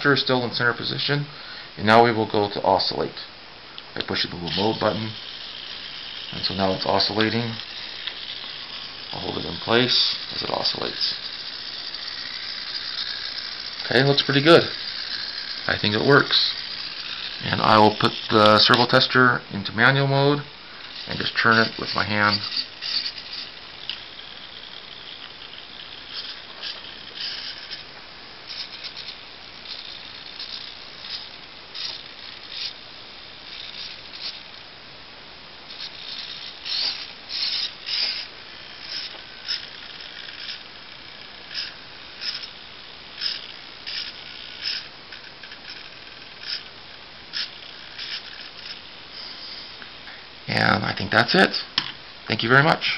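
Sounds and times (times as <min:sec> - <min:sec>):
servos whirring: 0:00.0 - 0:52.9.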